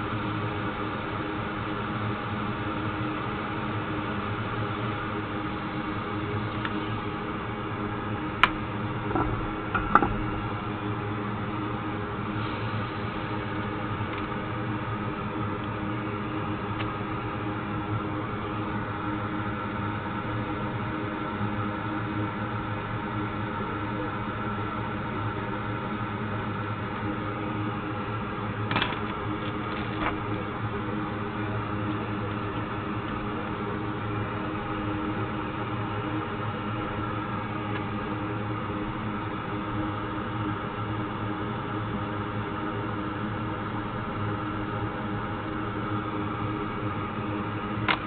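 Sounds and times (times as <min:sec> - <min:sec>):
steady drone: 0:00.0 - 0:48.0
whirring fan hum: 0:00.0 - 0:48.0.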